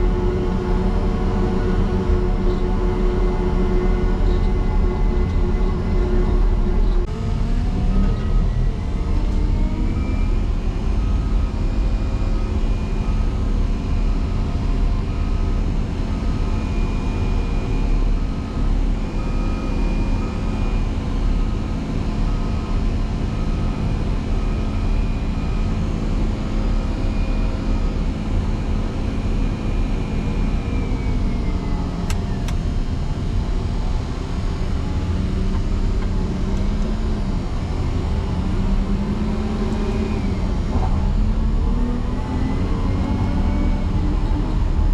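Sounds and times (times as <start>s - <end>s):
diesel engine working hard: 0.0s - 44.9s.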